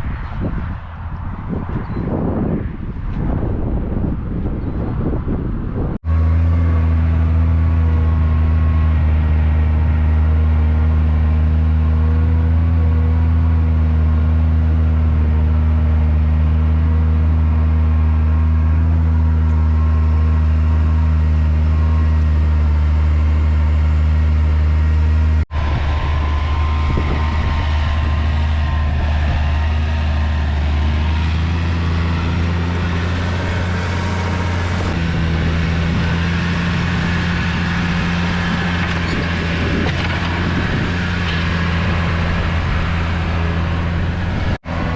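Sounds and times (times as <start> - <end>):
heavy vehicle engine running: 2.4 - 44.9.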